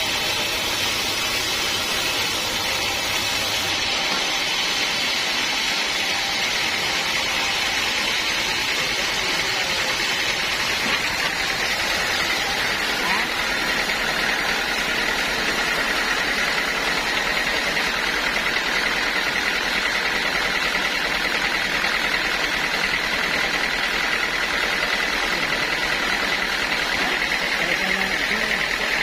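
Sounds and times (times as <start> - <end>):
band saw whining through log: 0.0 - 29.0.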